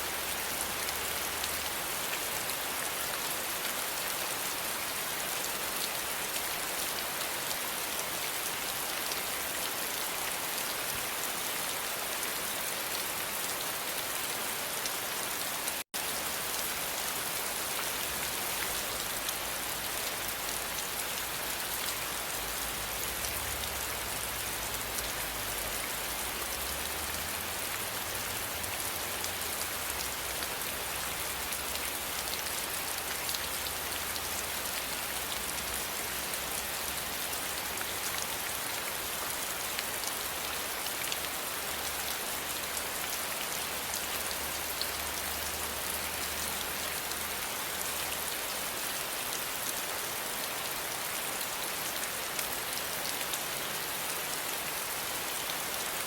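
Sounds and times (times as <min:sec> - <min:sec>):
dense rain hiss: 0:00.0 - 0:56.0.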